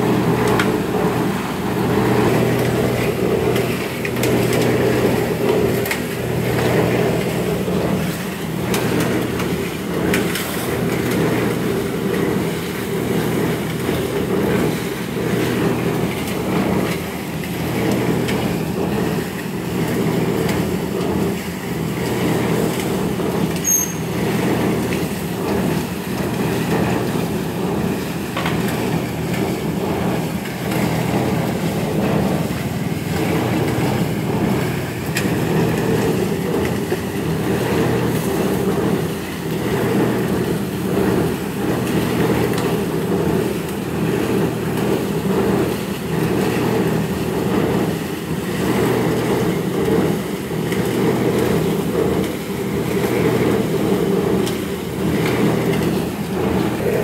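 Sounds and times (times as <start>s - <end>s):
concrete mixer humming: 0.0s - 57.0s.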